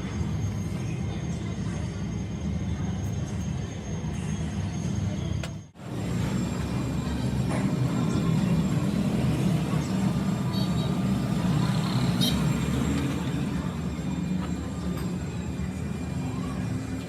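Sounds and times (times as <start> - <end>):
workshop machinery humming: 0.0 - 17.0.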